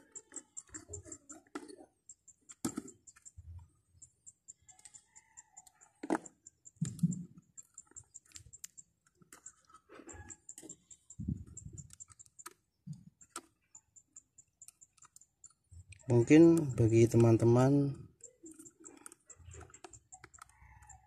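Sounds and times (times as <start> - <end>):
faint high-pitched ticking: 0.0 - 21.0.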